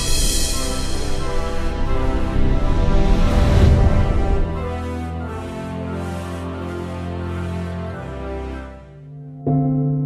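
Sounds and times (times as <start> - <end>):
intro music with held chords: 0.0 - 10.0.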